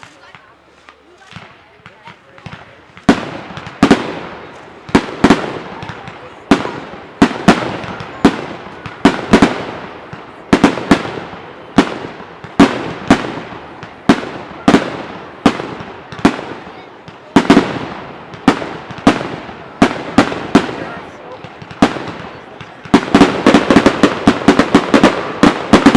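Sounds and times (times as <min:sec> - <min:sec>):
fireworks exploding with echo: 0:00.0 - 0:25.9.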